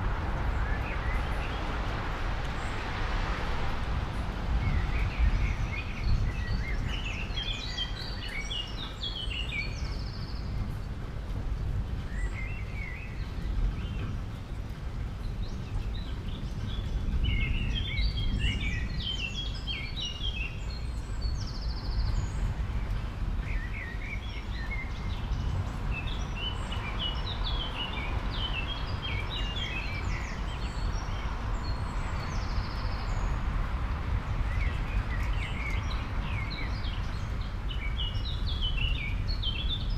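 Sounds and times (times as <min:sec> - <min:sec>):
small birds chirping: 0:04.5 - 0:39.9.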